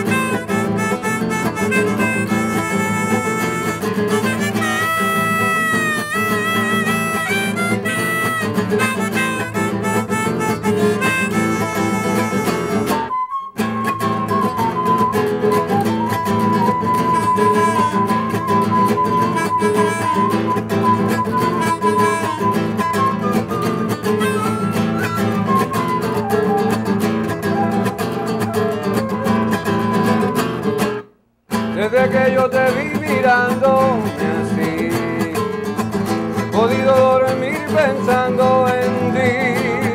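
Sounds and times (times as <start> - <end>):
harmonica: 0.0 - 30.8, 32.0 - 39.9
flute melody: 0.0 - 31.0, 32.4 - 39.9
acoustic guitar strummed: 0.0 - 39.9.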